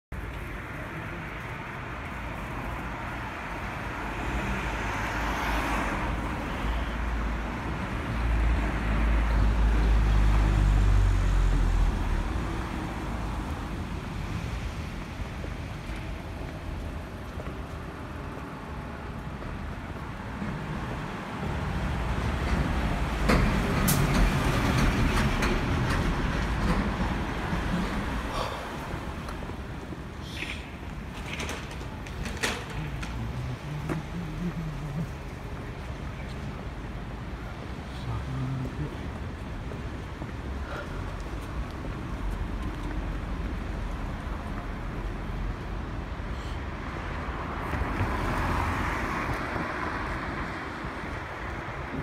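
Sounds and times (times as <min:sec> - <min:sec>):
low traffic rumble: 0:00.1 - 0:52.0
vehicles passing: 0:00.1 - 0:52.0.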